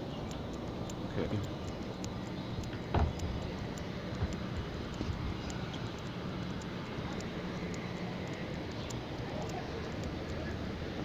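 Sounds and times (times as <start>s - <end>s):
faint ticks: 0.0s - 11.0s
low outdoor rumble: 0.0s - 11.0s.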